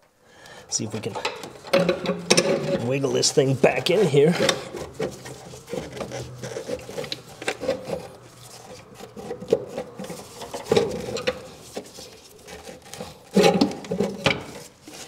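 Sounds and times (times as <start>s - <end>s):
scraping and rubbing of metal parts: 0.7s - 15.0s.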